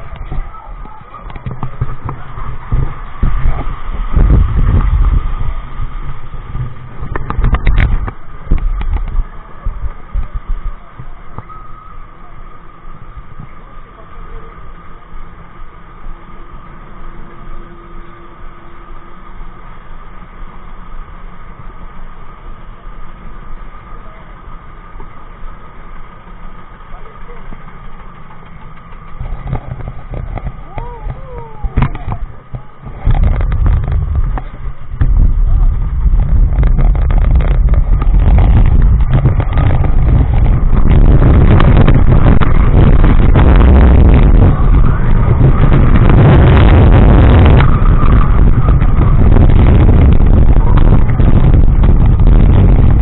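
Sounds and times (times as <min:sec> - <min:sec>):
wind on microphone: 0:00.0 - 0:24.1, 0:25.4 - 0:53.0
faint constant whine: 0:00.0 - 0:53.0
ride mechanical rumble: 0:00.0 - 0:53.0
wheels rattling on track: 0:00.0 - 0:53.0.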